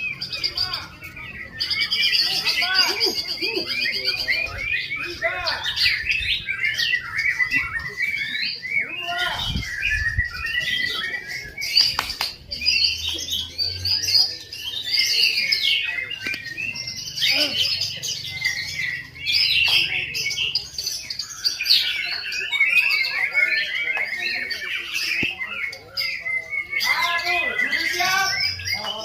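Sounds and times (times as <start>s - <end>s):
birds singing whistles and chirps: 0.0s - 29.0s.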